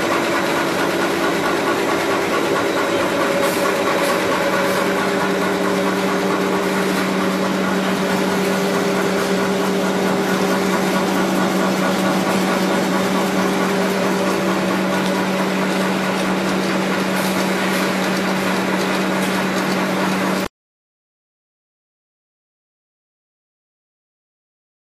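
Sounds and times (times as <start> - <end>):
paper cutting machine humming: 0.0 - 20.5.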